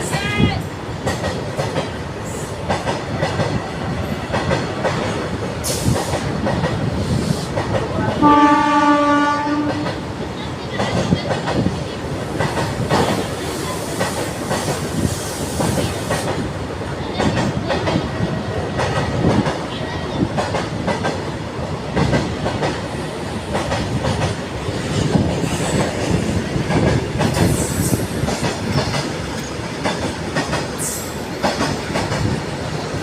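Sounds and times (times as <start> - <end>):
train wheels clattering over rails: 0.0 - 33.0.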